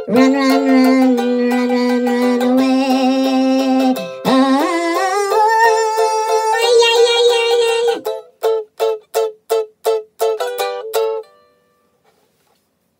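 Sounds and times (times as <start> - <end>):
ukulele strumming: 0.0 - 12.0.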